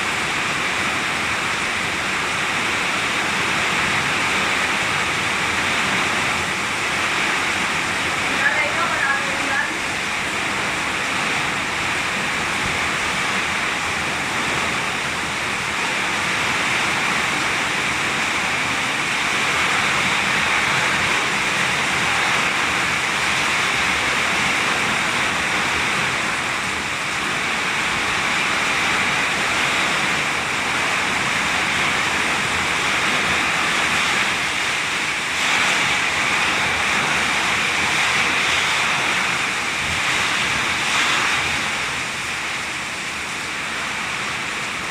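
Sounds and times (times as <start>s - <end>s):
heavy rain in strong wind: 0.0s - 44.9s.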